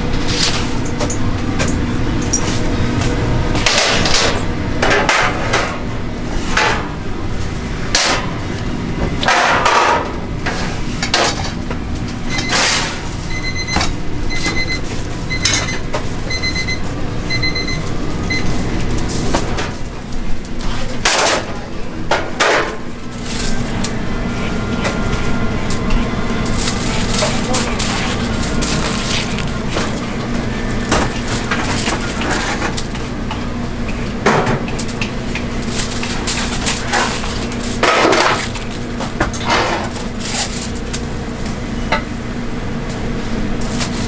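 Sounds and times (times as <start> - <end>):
utensils and containers clacking: 0.0 - 8.4, 9.1 - 16.8, 17.4 - 42.1, 43.0 - 44.0.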